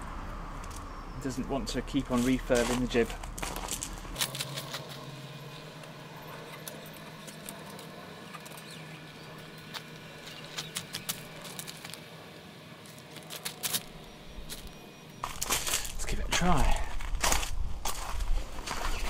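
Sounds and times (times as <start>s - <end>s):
footsteps on gravel: 1.7s - 8.6s, 9.4s - 12.1s, 12.8s - 19.0s.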